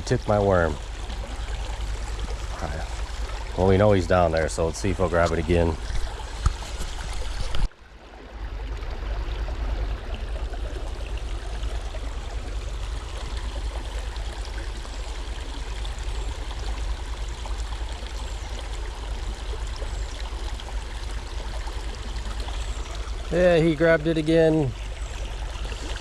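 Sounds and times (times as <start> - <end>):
stream babbling: 0.0 - 26.0.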